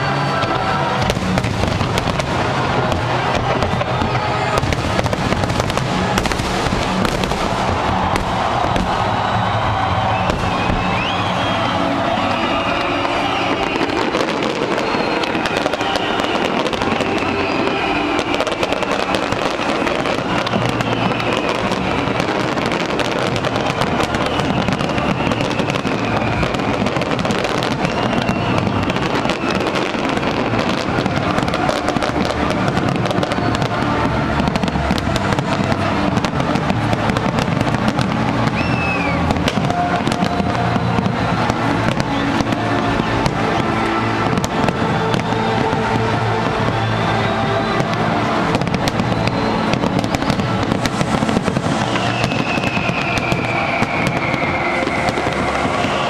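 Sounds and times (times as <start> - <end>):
fireworks crackling and popping: 0.0 - 56.0
whistling fireworks: 0.0 - 56.0.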